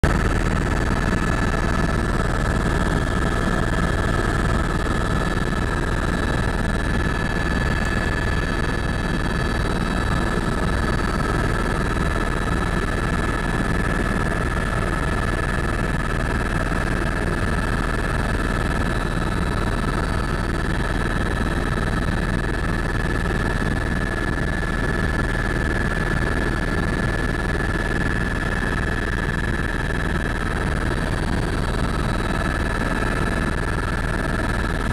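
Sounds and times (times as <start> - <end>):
helicopter engine and rotor drone: 0.0 - 34.9
high-pitched turbine whine: 0.0 - 34.9.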